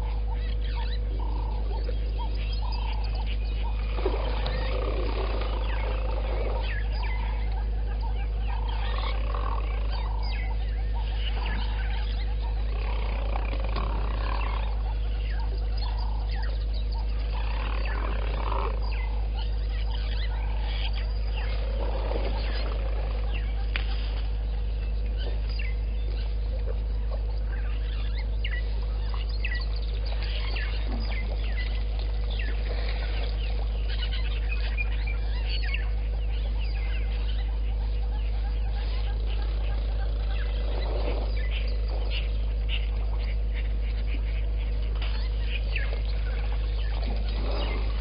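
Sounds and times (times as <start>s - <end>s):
faint constant tone: 0.0s - 48.0s
low electrical hum: 0.0s - 48.0s
short bird calls: 0.0s - 48.0s.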